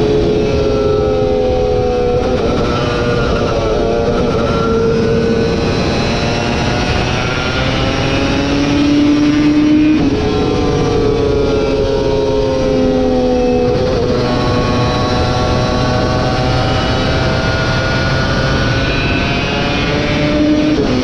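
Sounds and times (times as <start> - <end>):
racing motorcycle engine high revs: 0.0 - 21.0.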